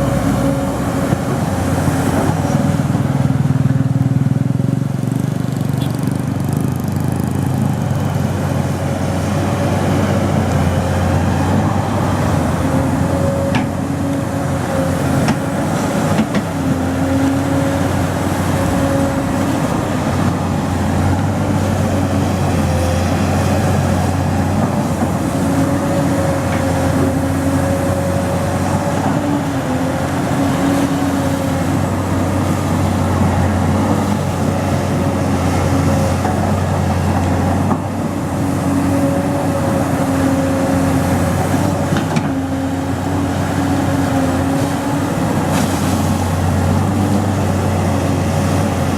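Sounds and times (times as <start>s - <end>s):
large engine running: 0.0s - 48.9s.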